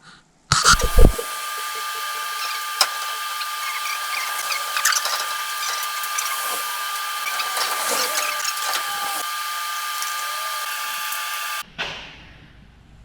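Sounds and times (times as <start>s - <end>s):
high-pitched power tool whine: 0.5s - 11.6s.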